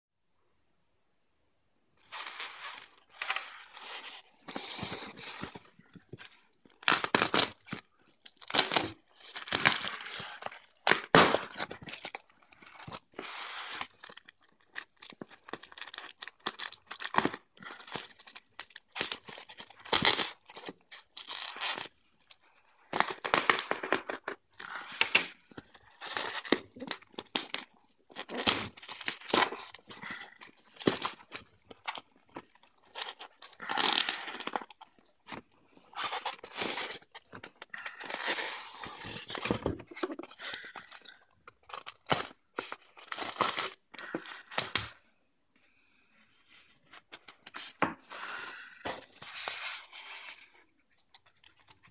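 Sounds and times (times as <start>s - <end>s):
bubble wrap crinkling and tearing: 2.0s - 45.0s.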